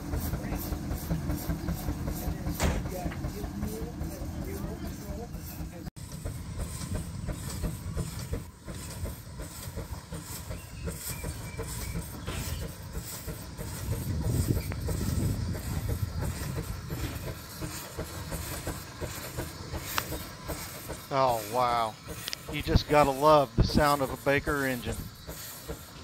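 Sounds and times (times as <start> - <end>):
steam engine exhaust chuffs: 0.0 - 26.0
steam hissing: 0.0 - 26.0.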